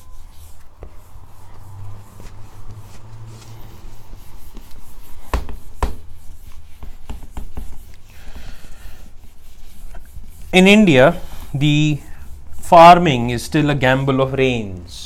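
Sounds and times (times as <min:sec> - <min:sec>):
eraser rubbing whiteboard: 0:00.0 - 0:12.9.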